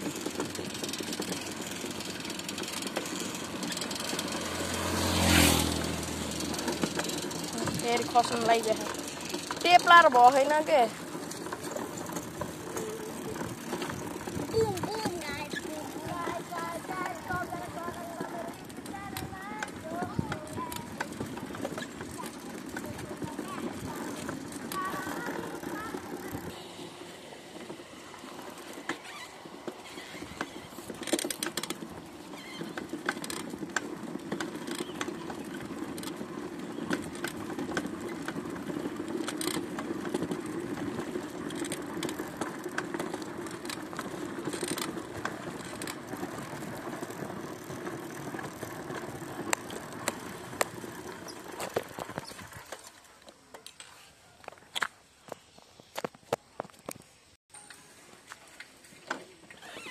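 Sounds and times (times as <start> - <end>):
bicycle tyre road noise: 0.0 - 59.9
bike rattles and clicks: 0.0 - 59.9.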